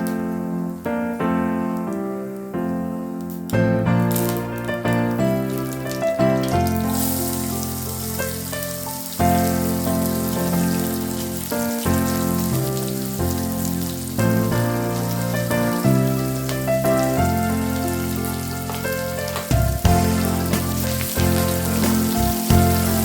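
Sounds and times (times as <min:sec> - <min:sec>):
steady hiss: 0:00.0 - 0:23.0
sustained keyboard chords: 0:00.8 - 0:23.0.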